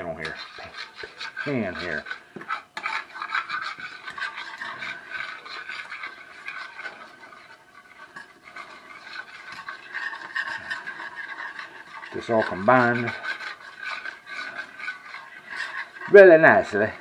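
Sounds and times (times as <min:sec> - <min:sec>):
whisk scraping in skillet: 0:00.0 - 0:17.0.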